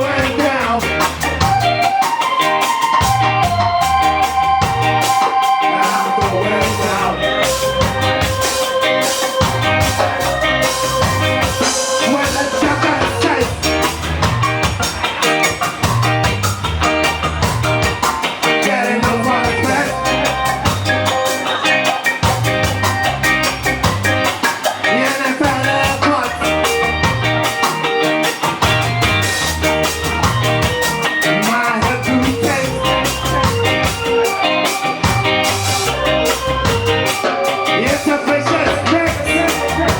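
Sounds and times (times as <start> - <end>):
drum kit: 0.0 - 39.9
guitar: 0.0 - 39.9
live ska band playing: 0.0 - 39.9.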